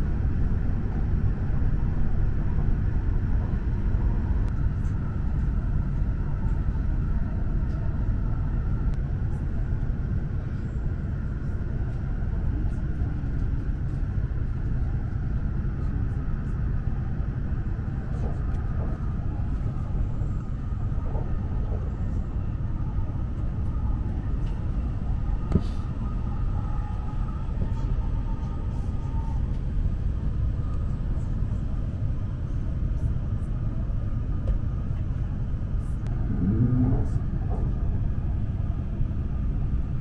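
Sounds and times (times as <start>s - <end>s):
train rumble in passenger cabin: 0.0s - 40.0s.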